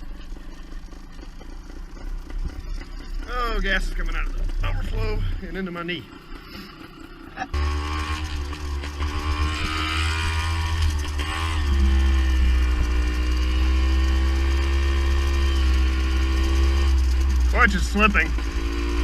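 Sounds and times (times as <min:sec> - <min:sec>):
two-stroke motorcycle engine running: 0:00.0 - 0:19.0.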